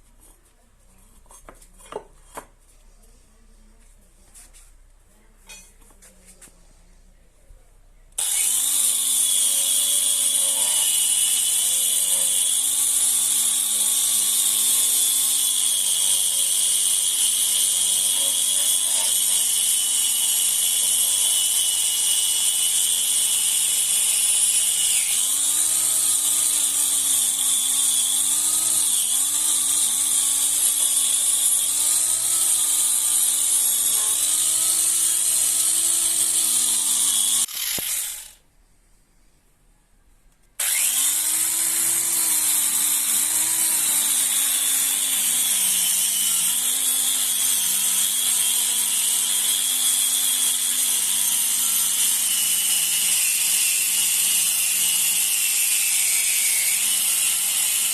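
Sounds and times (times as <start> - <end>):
electric grinder on metal: 8.2 - 38.4, 40.6 - 57.9.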